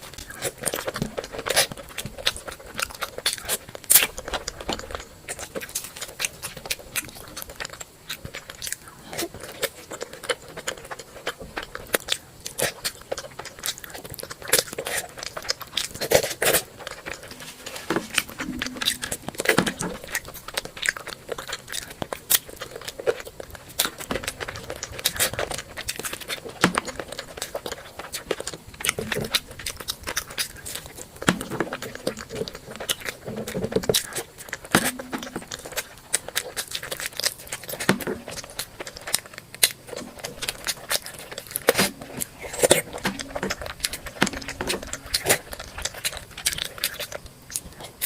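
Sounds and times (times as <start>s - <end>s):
food tearing: 0.0s - 48.0s
wet chewing with mouth clicks: 0.0s - 48.0s.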